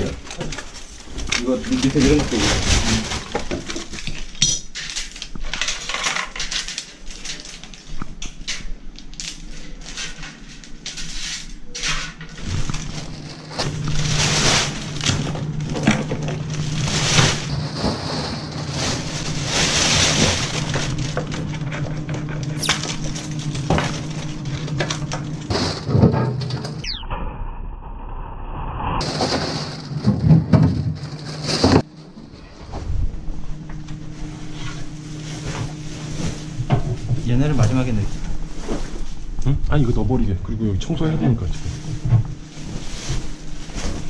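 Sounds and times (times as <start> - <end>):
plastic bags rustling: 0.0 - 26.8, 29.0 - 32.8, 34.1 - 39.3, 41.4 - 44.0
low steady hum: 0.0 - 44.0.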